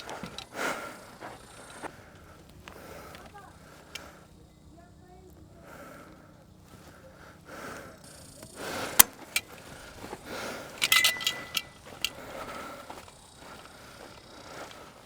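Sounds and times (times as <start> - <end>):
gear rustling and rattling: 0.0 - 5.3, 8.1 - 15.0.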